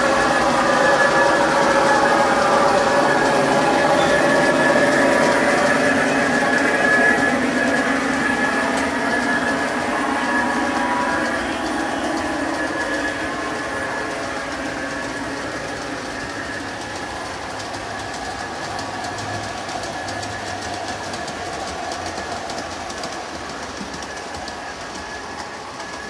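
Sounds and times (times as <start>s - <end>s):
model train locomotive whine: 0.0s - 26.0s
wheels clicking on rails: 0.0s - 26.0s.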